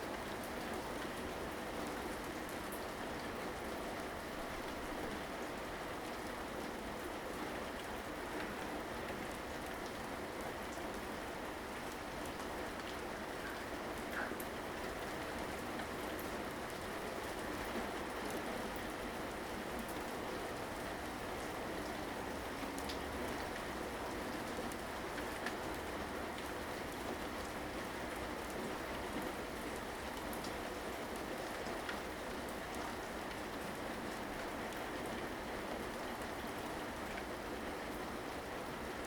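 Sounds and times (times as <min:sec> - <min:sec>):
rain hissing on surfaces: 0:00.0 - 0:39.0.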